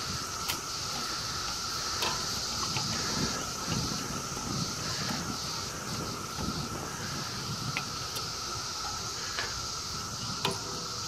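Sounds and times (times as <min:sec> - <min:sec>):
cicadas chorus drone: 0:00.0 - 0:11.0
constant low whine: 0:00.0 - 0:11.0.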